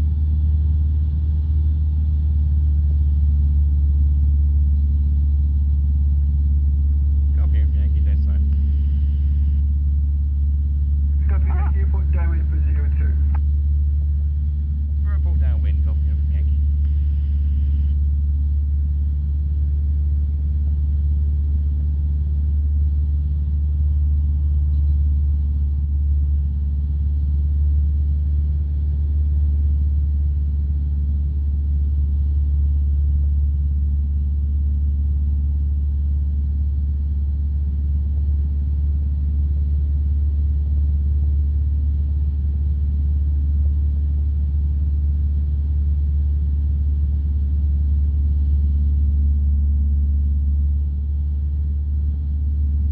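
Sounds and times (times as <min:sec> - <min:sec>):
light aircraft engine droning: 0:00.0 - 0:52.9.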